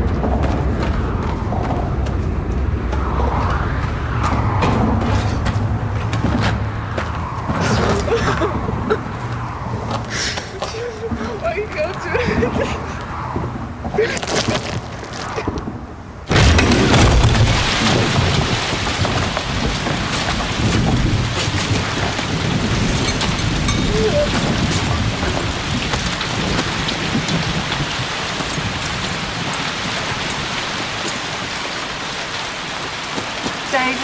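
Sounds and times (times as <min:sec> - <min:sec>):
heavy rain pouring: 0:00.0 - 0:13.4, 0:16.2 - 0:34.0
thunder rumbling: 0:00.0 - 0:34.0.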